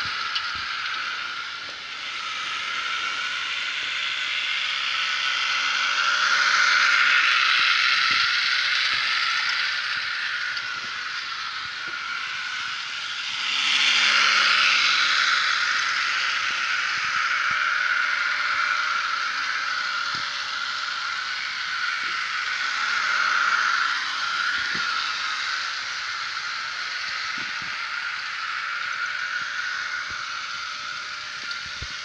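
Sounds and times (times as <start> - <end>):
model train whirring on rails: 0.0 - 32.0.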